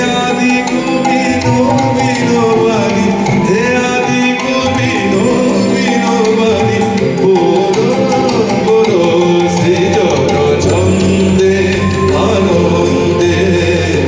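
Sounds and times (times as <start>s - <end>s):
keyboard and strings: 0.0s - 14.0s
man singing: 0.0s - 14.0s
tabla and hand drums: 0.0s - 14.0s.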